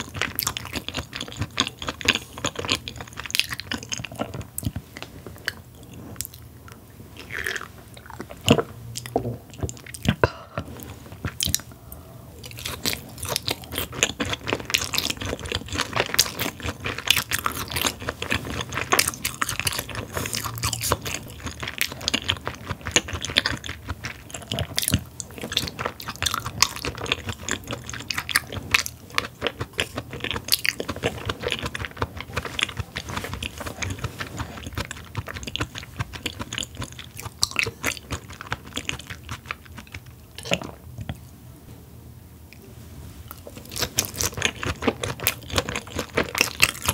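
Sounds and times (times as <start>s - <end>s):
chewing with mouth clicks: 0.0s - 41.2s, 43.3s - 46.9s.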